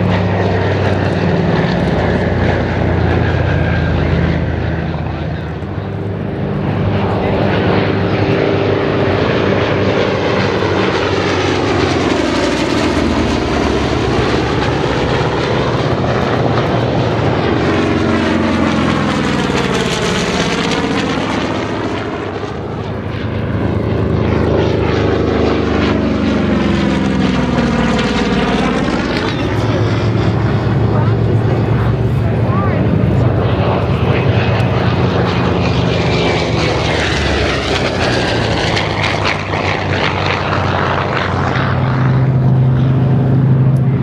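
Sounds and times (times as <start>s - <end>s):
propeller aircraft engines droning: 0.0s - 44.0s.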